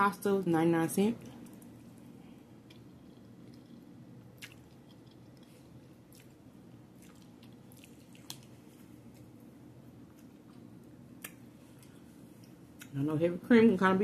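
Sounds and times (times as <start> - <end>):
person chewing pasta: 1.4 - 12.9.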